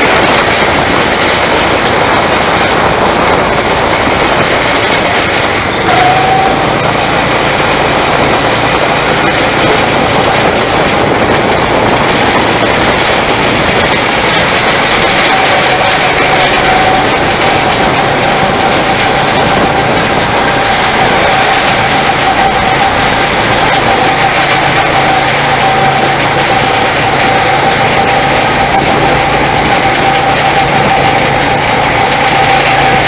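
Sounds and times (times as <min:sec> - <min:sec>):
go-kart engine running: 0:00.0 - 0:33.0
rush of noise: 0:00.0 - 0:33.0.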